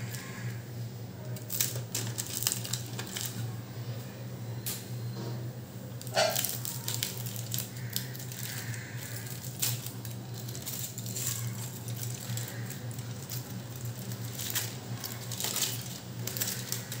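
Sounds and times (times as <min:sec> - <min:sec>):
aluminium foil crinkling: 0:00.0 - 0:03.7, 0:05.9 - 0:17.0
steady low hum: 0:00.0 - 0:17.0.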